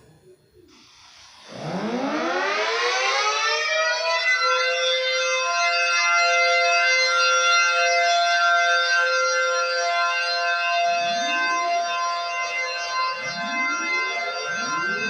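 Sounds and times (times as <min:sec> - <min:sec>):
civil defense siren wailing: 0:01.4 - 0:15.0.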